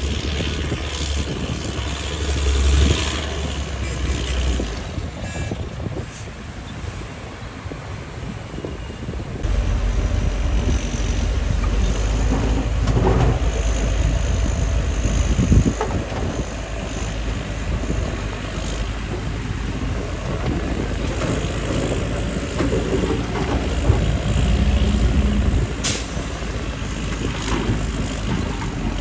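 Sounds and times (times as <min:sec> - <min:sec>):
heavy diesel machinery running: 0:00.0 - 0:06.6, 0:09.0 - 0:29.0.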